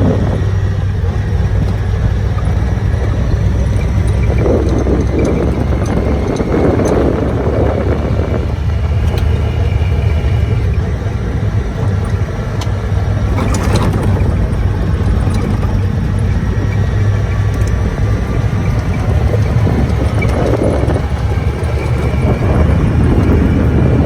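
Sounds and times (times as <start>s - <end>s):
vehicle engine drone: 0.0s - 24.0s.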